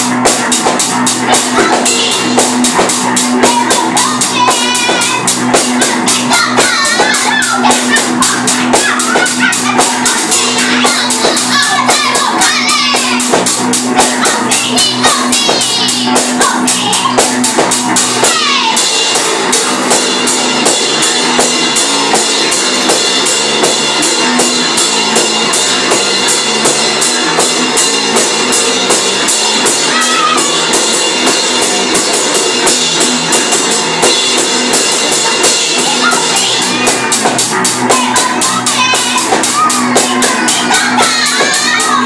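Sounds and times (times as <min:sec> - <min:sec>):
drum kit with cymbals: 0:00.0 - 0:42.0
electric bass guitar: 0:00.0 - 0:42.0.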